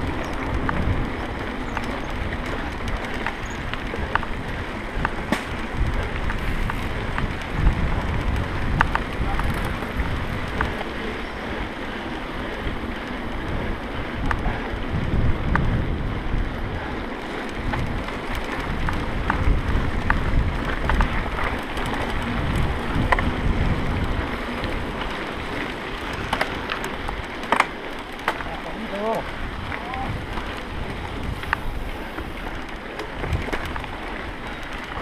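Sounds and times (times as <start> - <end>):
bike clicks and rattles: 0.0 - 35.0
wind buffeting microphone: 0.0 - 35.0.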